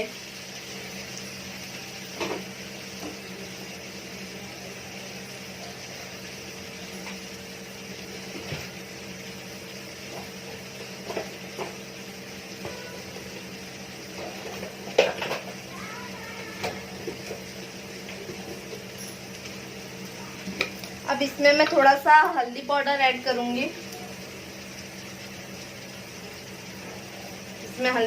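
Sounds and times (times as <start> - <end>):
sauce sizzling in a pan: 0.0 - 28.0.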